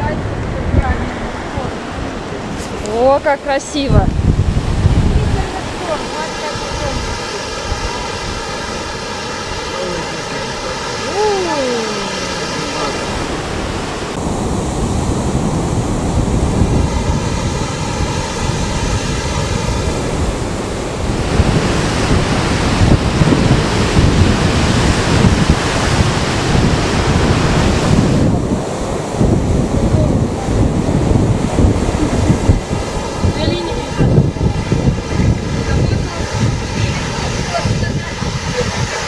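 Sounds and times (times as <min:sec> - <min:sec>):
surf breaking on shore: 0:00.0 - 0:39.0
wind buffeting microphone: 0:00.0 - 0:39.0.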